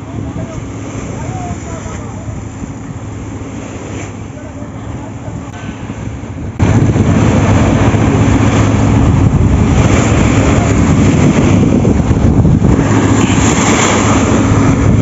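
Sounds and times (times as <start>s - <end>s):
boat engine low hum: 0.0s - 15.0s
water rushing along hull: 0.0s - 15.0s
wind buffeting microphone: 0.0s - 15.0s.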